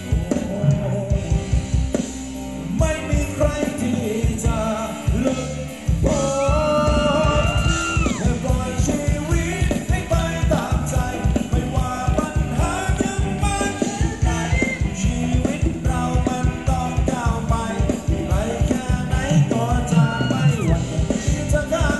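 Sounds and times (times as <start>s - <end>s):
person singing: 0.0s - 1.7s, 2.6s - 21.9s
live band dance music: 0.0s - 21.9s.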